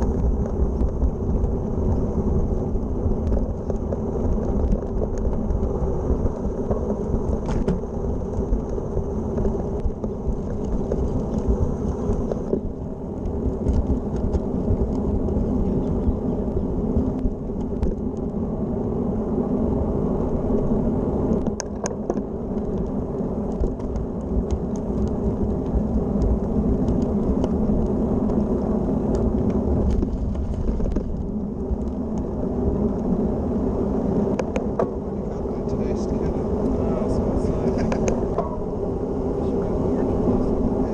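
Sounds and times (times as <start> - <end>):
bike tyres rolling on path: 0.0 - 40.9
wind rumble on microphone: 0.0 - 40.9.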